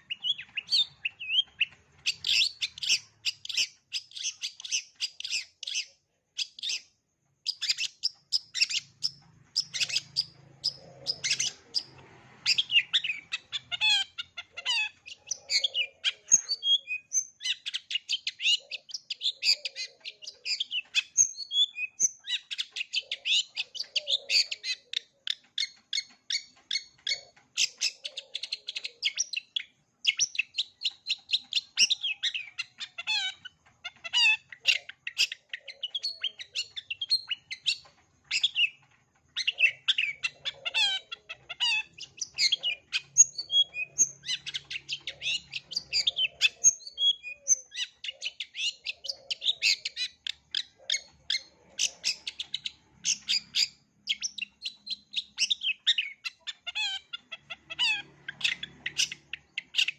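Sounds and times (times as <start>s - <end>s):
bird singing fast chirps: 0.0s - 59.9s.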